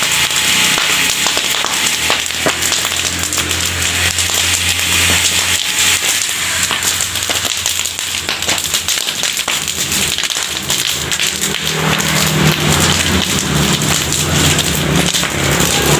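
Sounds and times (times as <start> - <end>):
grill sizzling and crackling: 0.0 - 15.9.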